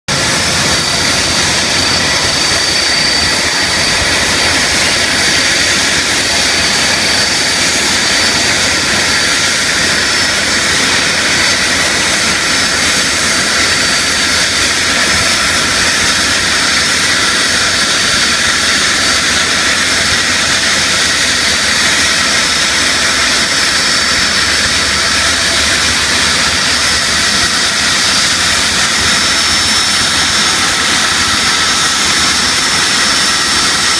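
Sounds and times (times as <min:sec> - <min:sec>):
jet engines running: 0:00.1 - 0:33.9.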